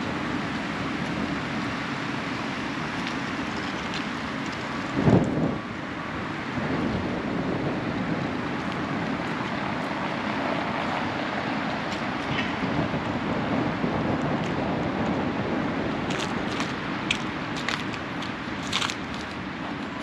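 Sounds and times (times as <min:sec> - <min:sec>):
traffic rumble: 0:00.0 - 0:20.0
wind on microphone: 0:00.0 - 0:20.0.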